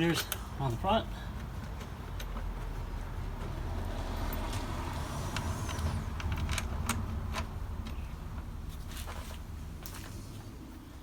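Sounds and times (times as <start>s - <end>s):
steady low rumble: 0.5s - 11.0s.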